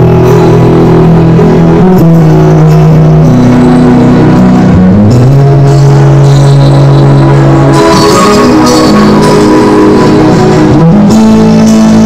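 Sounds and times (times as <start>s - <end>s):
live band held chords: 0.0s - 12.0s.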